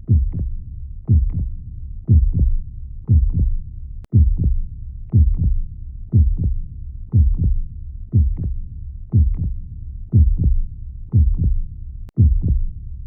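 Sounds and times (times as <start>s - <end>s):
heartbeat: 0.0s - 12.8s.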